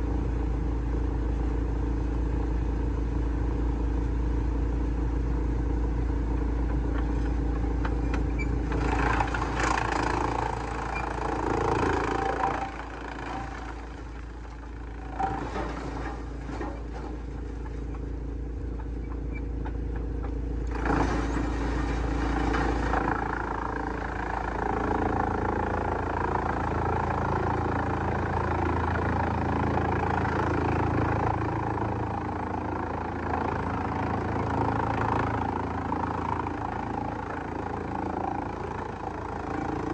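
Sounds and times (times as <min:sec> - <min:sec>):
wood shredder engine running: 0:00.0 - 0:39.9
wood grinding in shredder: 0:06.4 - 0:39.9.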